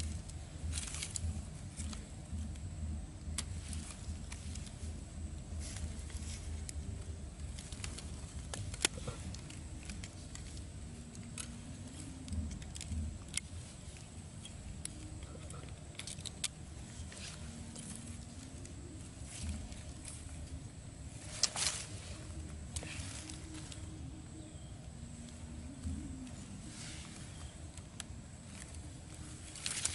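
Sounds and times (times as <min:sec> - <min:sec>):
light clicks and rustles: 0:00.0 - 0:24.2, 0:25.1 - 0:29.9
low steady rumble: 0:00.0 - 0:29.9.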